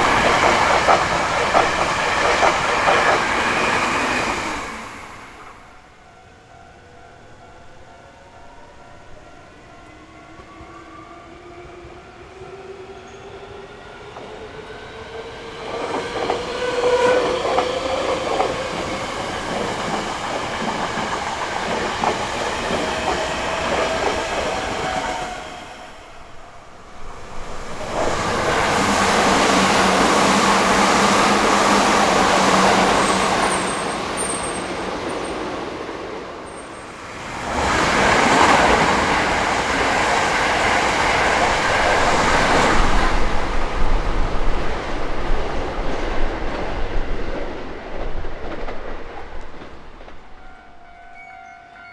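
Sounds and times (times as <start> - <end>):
train wheels clattering on rails: 0.0 - 5.9, 14.0 - 51.8
train passing with low hum: 0.0 - 51.9.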